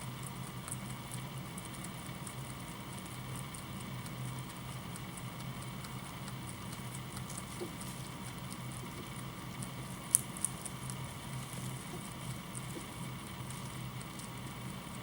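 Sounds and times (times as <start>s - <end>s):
rabbit chewing hay: 0.0s - 15.0s
steady low hum: 0.0s - 15.0s.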